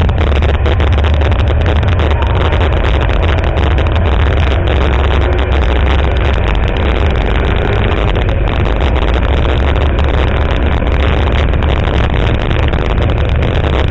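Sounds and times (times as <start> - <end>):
car engine droning: 0.0 - 13.9
road noise: 0.0 - 13.9
wind noise: 0.0 - 13.9.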